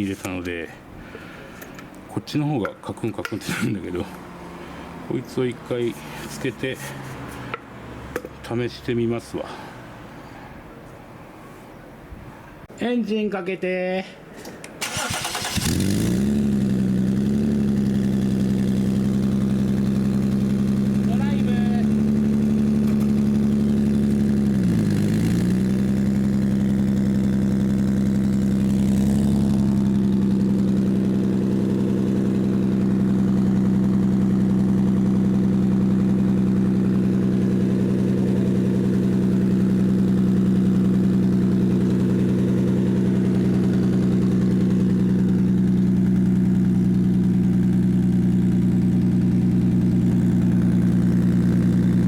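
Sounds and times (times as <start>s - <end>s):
car engine idling: 0.0s - 10.2s, 14.8s - 52.0s.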